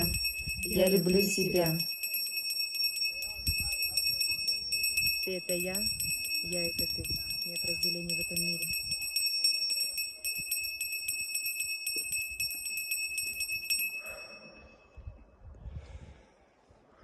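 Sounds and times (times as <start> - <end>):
hand bell shaken rapidly: 0.0 - 14.5.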